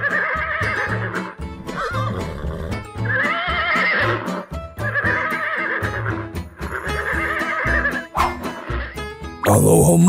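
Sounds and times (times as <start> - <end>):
horse whinny: 0.0 - 9.0.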